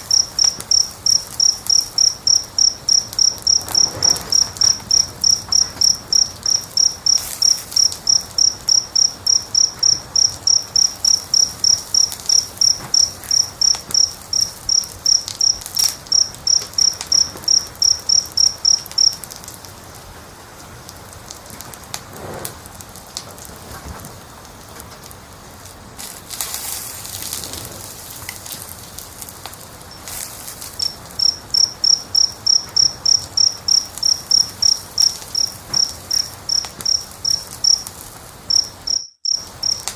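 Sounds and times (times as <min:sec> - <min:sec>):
cricket chirping: 0:00.0 - 0:20.0, 0:26.0 - 0:39.9
wood fire crackling: 0:00.0 - 0:39.9.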